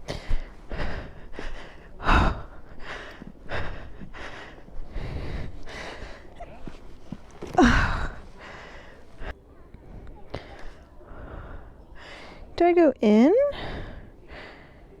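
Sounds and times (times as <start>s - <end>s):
woman panting: 0.0s - 9.4s, 10.3s - 12.6s, 13.4s - 15.0s.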